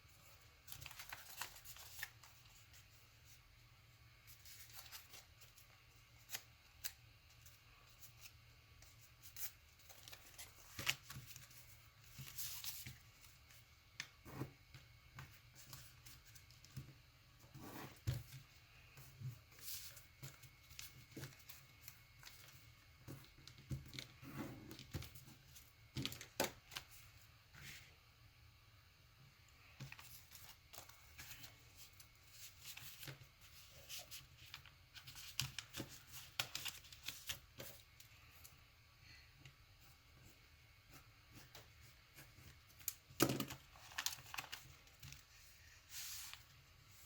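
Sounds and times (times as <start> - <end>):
paper rustling and creasing: 0.1 - 3.4, 4.2 - 14.6, 15.2 - 27.9, 29.6 - 38.5, 41.4 - 47.0.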